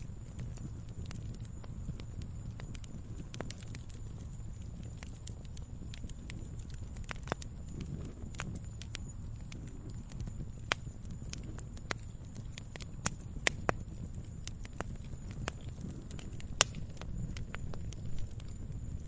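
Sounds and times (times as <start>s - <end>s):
fire crackling and popping: 0.0s - 19.0s
low rumble of fire: 0.0s - 19.0s.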